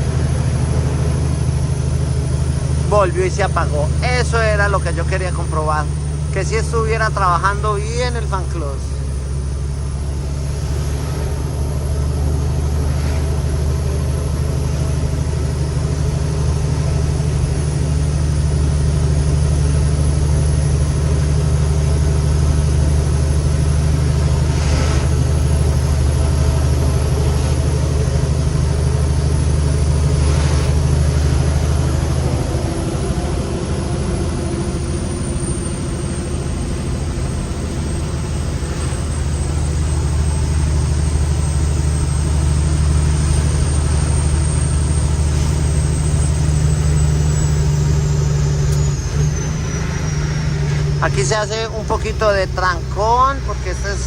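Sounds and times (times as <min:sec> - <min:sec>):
diesel truck engine under load: 0:00.0 - 0:54.0
thin high whine: 0:00.0 - 0:54.0.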